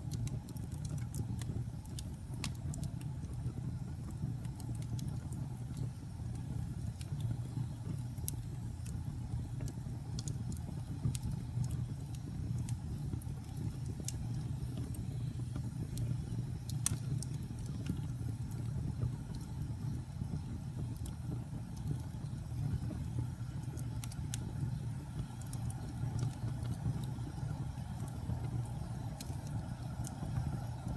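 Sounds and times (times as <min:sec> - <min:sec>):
fire crackling and popping: 0:00.0 - 0:30.9
low rumble of flames: 0:00.0 - 0:30.9.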